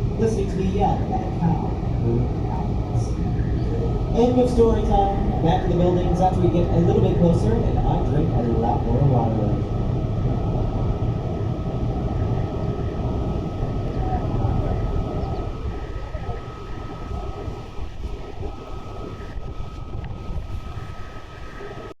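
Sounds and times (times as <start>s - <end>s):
boat engine rumble: 0.0s - 22.0s
thin steady whine: 0.0s - 22.0s.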